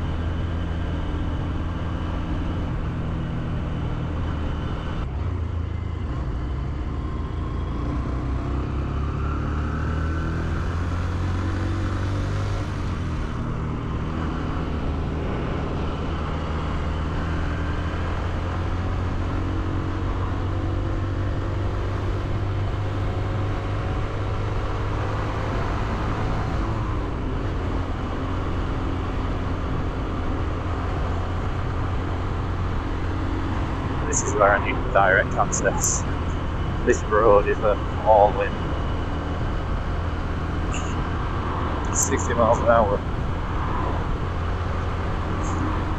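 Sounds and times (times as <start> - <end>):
motorcycle engine while riding: 0.0 - 45.9.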